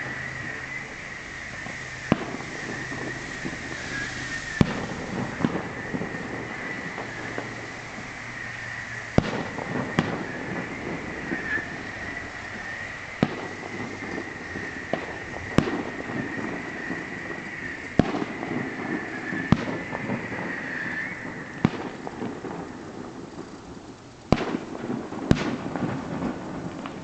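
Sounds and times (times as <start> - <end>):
distant fireworks bangs: 0.0 - 27.0
echoes rumbling off hills: 0.0 - 27.0.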